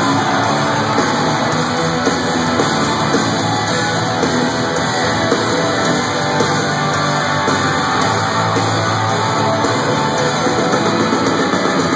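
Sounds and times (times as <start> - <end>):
live country-rock band playing: 0.0 - 11.9.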